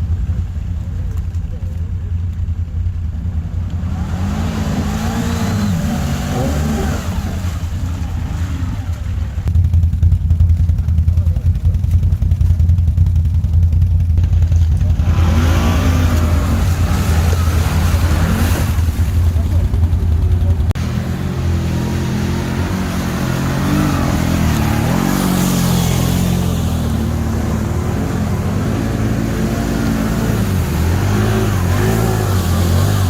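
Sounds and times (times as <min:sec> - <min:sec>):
quad bike engine running: 0:00.0 - 0:33.0.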